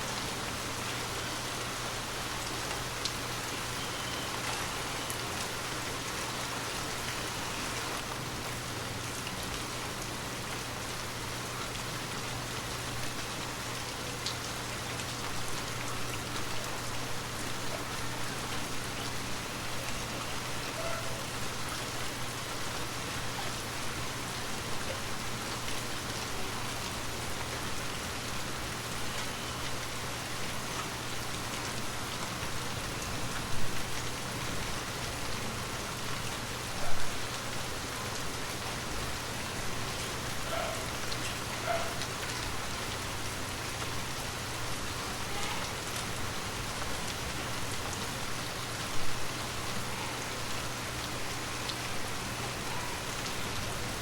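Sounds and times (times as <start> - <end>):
gentle rain falling: 0.0 - 54.0.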